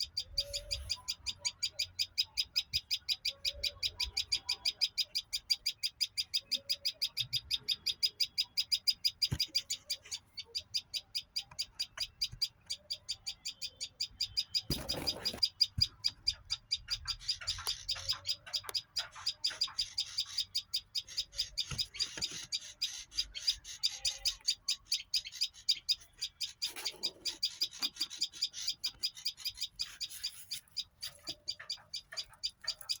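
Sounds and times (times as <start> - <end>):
bird chirping rapidly: 0.0 - 33.0
faint lower bird calls: 0.0 - 33.0.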